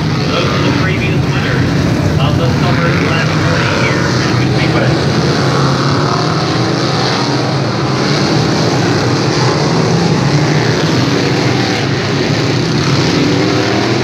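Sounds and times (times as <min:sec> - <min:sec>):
race car engines roaring: 0:00.0 - 0:14.0.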